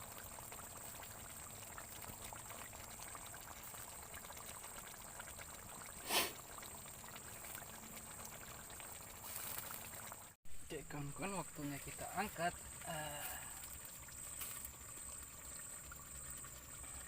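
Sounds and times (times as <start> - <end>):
water bubbling in pot: 0.0 - 17.0.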